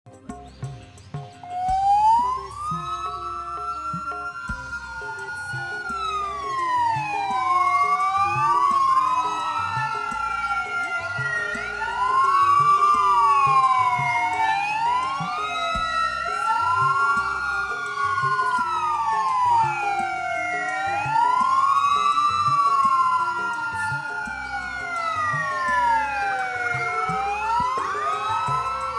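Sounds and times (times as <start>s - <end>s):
sirens wailing: 1.4s - 28.9s.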